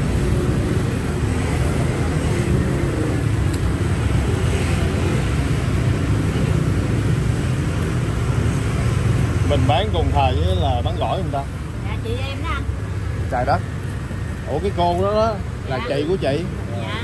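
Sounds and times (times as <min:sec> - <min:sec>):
heavy street traffic rumble: 0:00.0 - 0:17.0.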